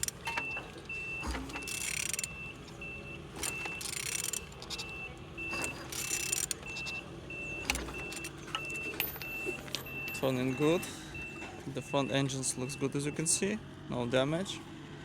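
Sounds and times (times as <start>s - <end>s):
engine clicks: 0.0s - 13.4s.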